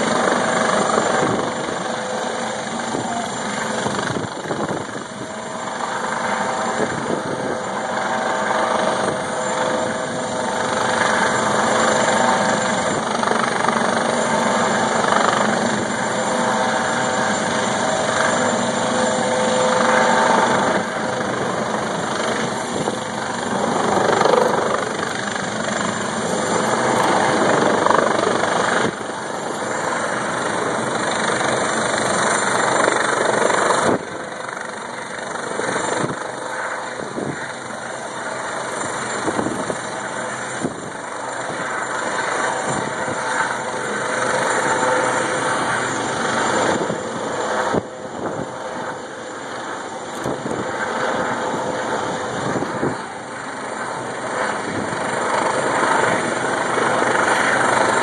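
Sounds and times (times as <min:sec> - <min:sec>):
helicopter hovering overhead: 0:00.0 - 0:58.0.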